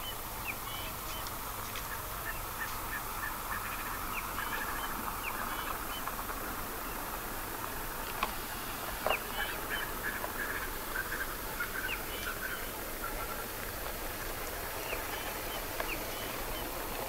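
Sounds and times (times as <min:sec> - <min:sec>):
birds chirping: 0:00.0 - 0:13.5, 0:14.4 - 0:16.9.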